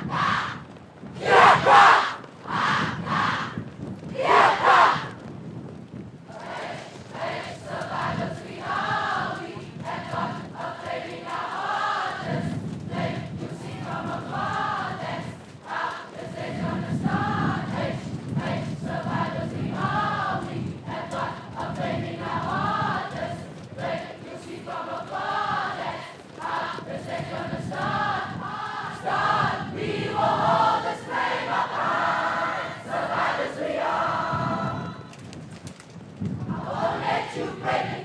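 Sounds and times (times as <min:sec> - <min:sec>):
crowd chanting in unison: 0:00.0 - 0:00.6, 0:01.2 - 0:05.1, 0:06.3 - 0:35.0, 0:36.5 - 0:38.0
low crowd rumble: 0:00.0 - 0:38.0.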